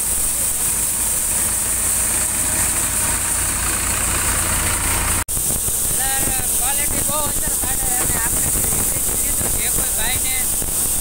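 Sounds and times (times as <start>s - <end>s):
tractor engine drone: 0.0s - 9.3s
high hiss: 0.0s - 11.0s.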